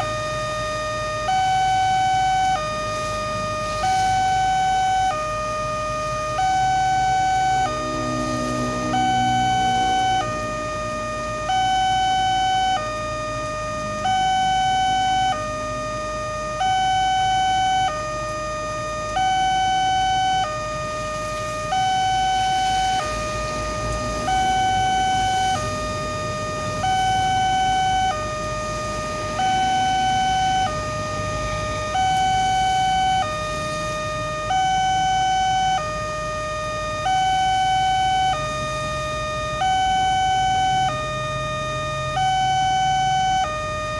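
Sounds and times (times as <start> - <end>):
level crossing two-tone alarm: 0.0 - 43.9.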